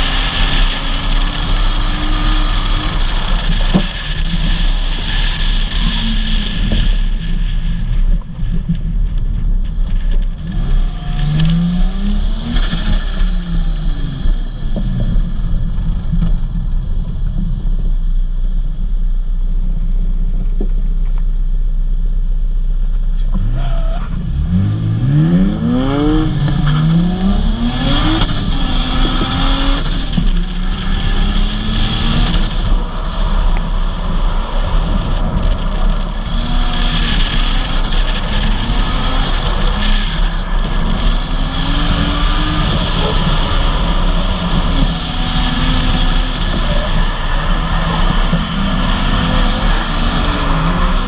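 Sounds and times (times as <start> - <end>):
car engine revving: 0.0 - 51.0
high turbo whine: 0.0 - 51.0.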